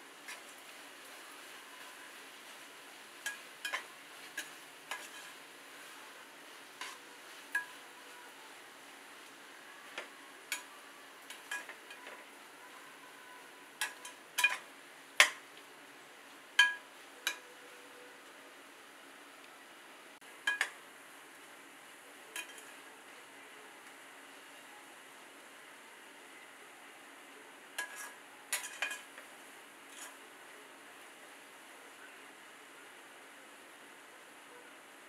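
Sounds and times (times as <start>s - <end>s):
faint sizzle of frying: 0.0s - 35.0s.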